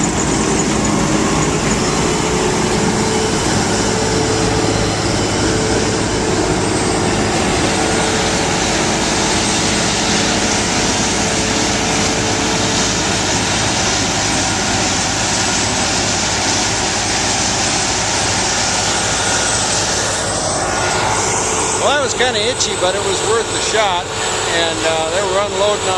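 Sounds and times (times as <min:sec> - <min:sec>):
large engine droning: 0:00.0 - 0:25.9.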